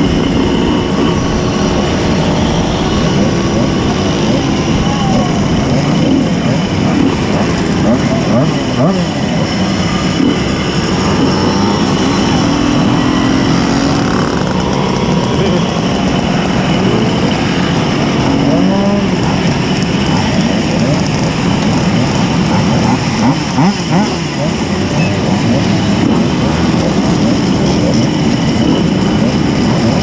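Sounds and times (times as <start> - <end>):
moped engines revving: 0.0 - 30.0.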